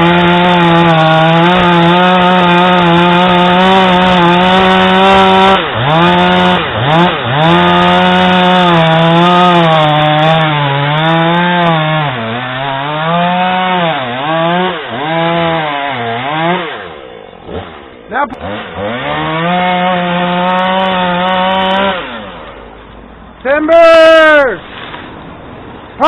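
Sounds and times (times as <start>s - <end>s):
chainsaw cutting wood: 0.0s - 23.1s, 24.6s - 25.3s.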